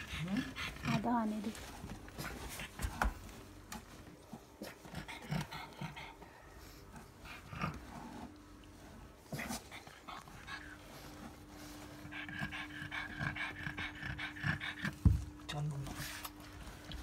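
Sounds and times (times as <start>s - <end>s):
dog panting: 0.0s - 3.3s, 4.1s - 8.4s, 9.3s - 17.0s
low steady hum: 0.0s - 17.0s.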